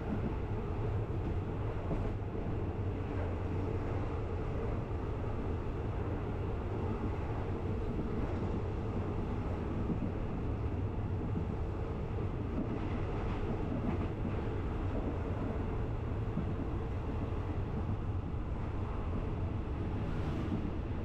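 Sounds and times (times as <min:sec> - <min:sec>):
train rumbling and rattling: 0:00.0 - 0:21.0.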